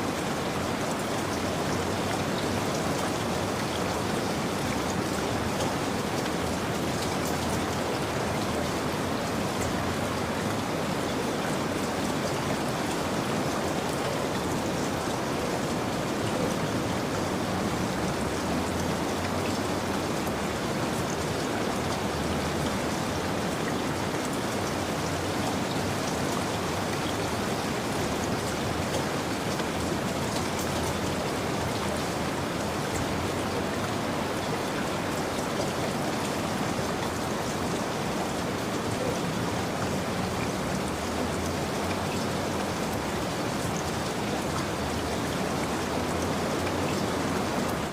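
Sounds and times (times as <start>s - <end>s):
steady rainfall: 0.0s - 47.9s.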